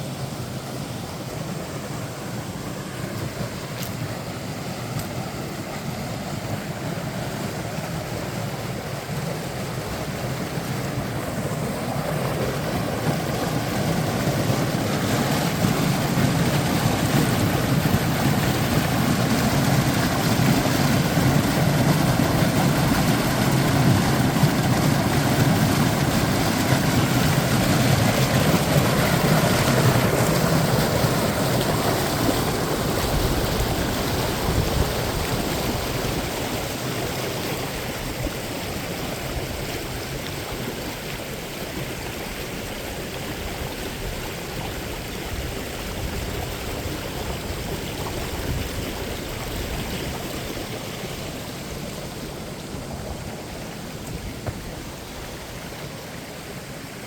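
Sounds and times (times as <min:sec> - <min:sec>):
waterfall rushing water: 0:00.0 - 0:57.0.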